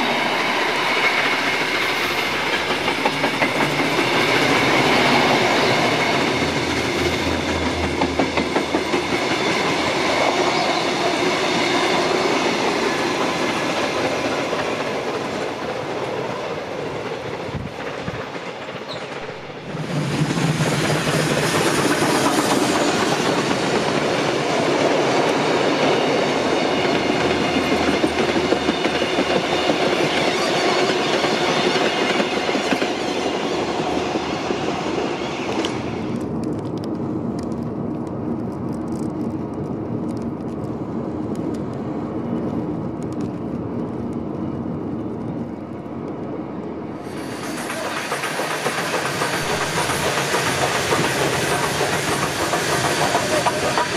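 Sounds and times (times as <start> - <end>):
train wheels clattering over rails: 0.0 - 36.9, 47.0 - 53.9.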